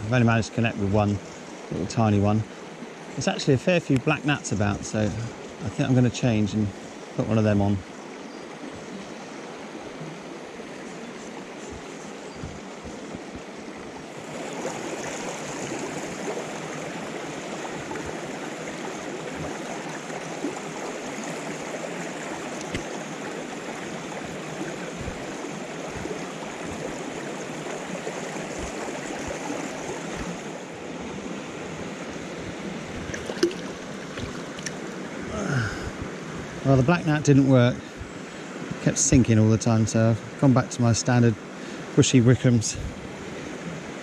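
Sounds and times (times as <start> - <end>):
stream rushing over stones: 0.0 - 44.0.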